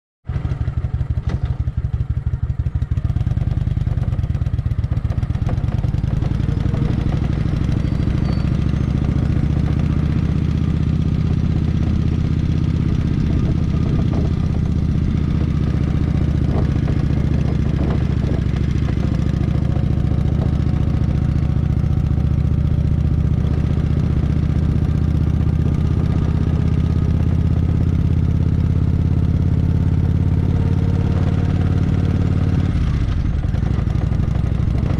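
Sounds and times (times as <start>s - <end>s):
motorcycle engine running: 0.3s - 34.9s.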